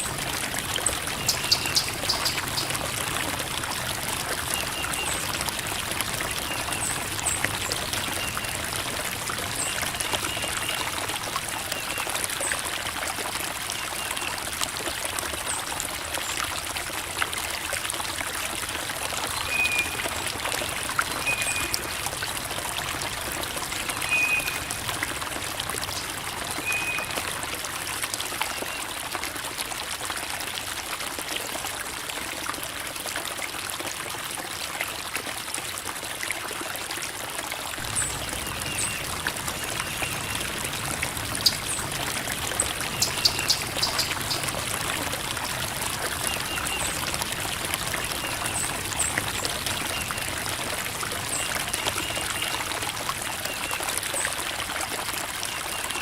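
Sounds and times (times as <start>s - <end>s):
creek water babbling over rocks: 0.0s - 56.0s.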